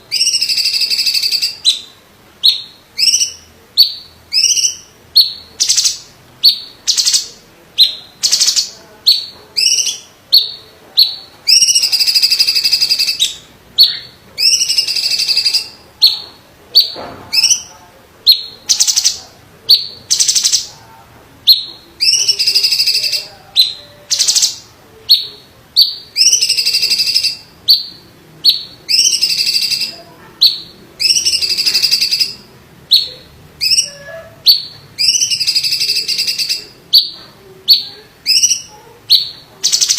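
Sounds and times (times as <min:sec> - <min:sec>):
bird singing high notes and trills: 0:00.1 - 0:17.7, 0:21.5 - 0:39.9.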